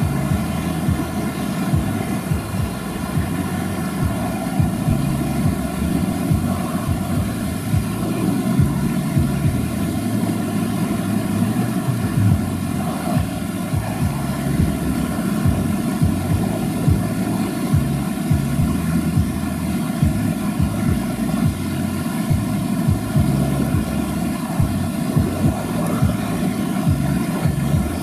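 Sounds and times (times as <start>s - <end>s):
engine running hard: 0.0s - 28.0s.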